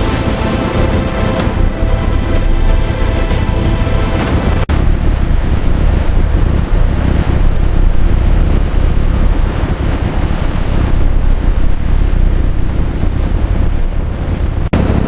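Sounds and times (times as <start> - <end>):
deep low rumble: 0.0 - 15.0
wind and water rushing: 0.0 - 15.0.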